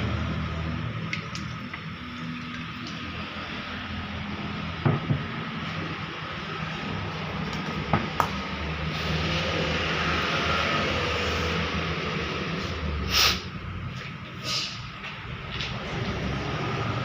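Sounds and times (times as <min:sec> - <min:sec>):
machine humming and rumbling: 0:00.0 - 0:17.0.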